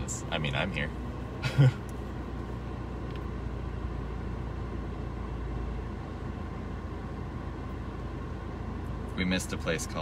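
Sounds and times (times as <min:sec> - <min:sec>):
engine and tyre rumble: 0:00.0 - 0:10.0.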